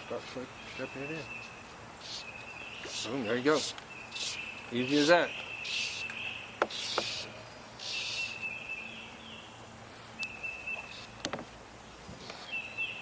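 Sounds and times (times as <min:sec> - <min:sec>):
insect hissing and buzzing: 0:00.0 - 0:12.8.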